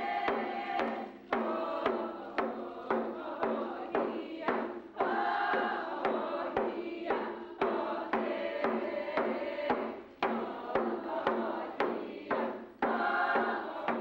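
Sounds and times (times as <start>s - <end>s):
frame drums struck with sticks: 0.0s - 14.0s
singers chanting: 0.0s - 14.0s.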